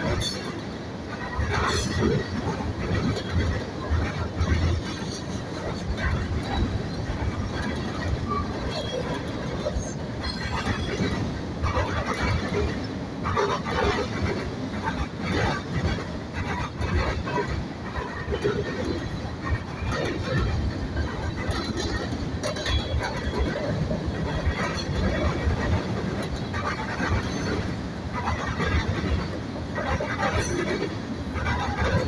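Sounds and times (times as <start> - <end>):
freight train wheels clattering: 0.0 - 32.0.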